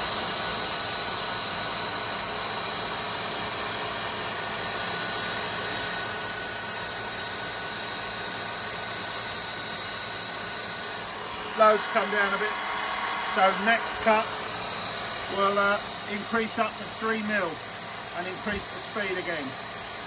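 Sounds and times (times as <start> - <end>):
lathe cutting steel with whine: 0.0 - 20.0.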